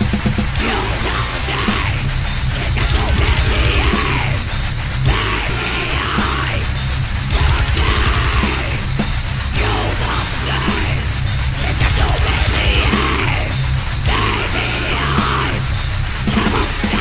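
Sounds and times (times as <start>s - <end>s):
distorted guitars: 0.0s - 17.0s
fast dense drumming: 0.0s - 17.0s
harsh yelled vocals: 0.0s - 17.0s.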